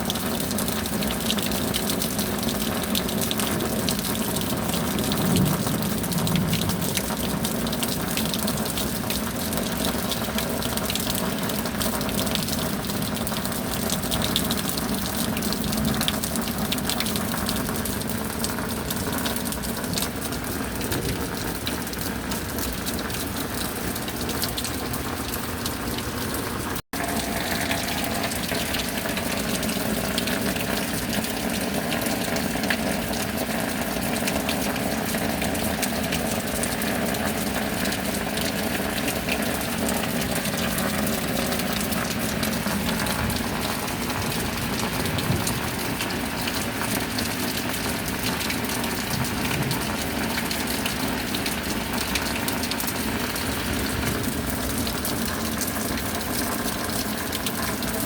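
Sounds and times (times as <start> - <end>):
steady rain: 0.0 - 58.0
water running and gushing: 0.0 - 58.0.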